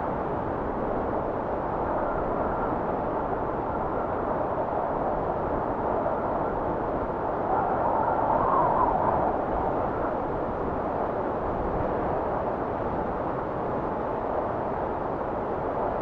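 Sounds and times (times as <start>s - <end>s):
blizzard wind rushing: 0.0s - 16.0s.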